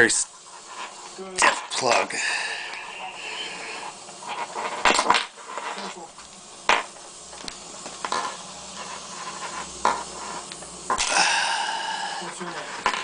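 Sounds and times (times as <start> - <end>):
sustained hissing buzz: 0.0 - 13.0.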